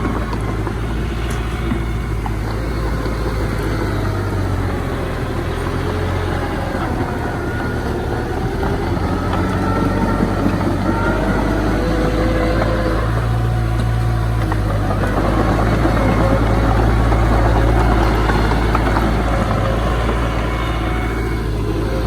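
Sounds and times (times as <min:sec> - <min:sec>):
diesel engine running under load: 0:00.0 - 0:22.0
faint high whines: 0:00.0 - 0:22.0.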